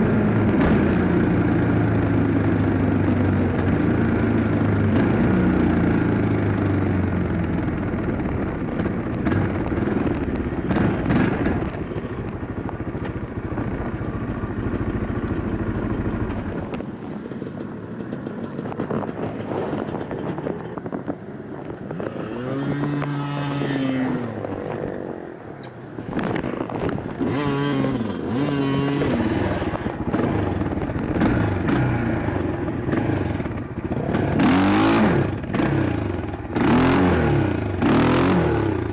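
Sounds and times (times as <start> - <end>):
dirt bike engine running: 0.0 - 38.9
wind noise: 0.0 - 38.9.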